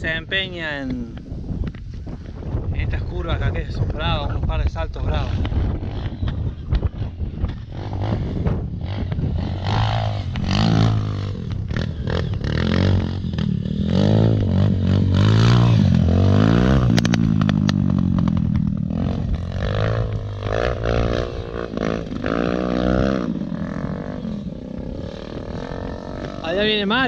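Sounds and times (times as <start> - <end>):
dirt bike engine revving: 5.0 - 27.0.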